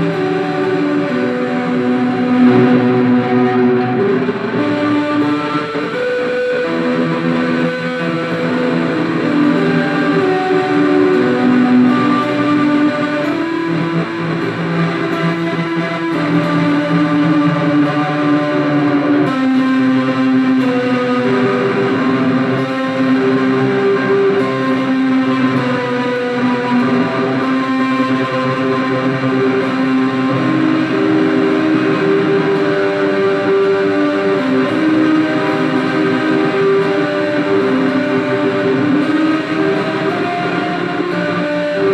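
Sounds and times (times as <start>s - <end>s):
electric guitar with reverb and delay: 0.0s - 41.9s.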